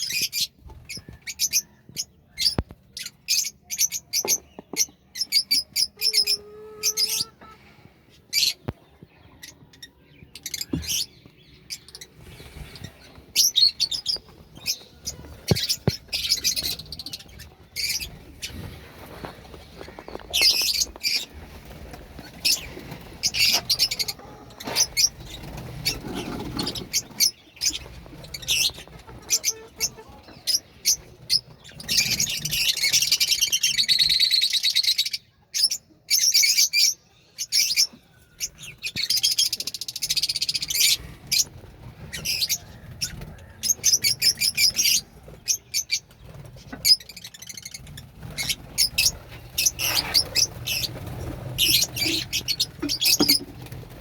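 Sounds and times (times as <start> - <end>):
budgerigars chirping and chattering: 0.0 - 54.0.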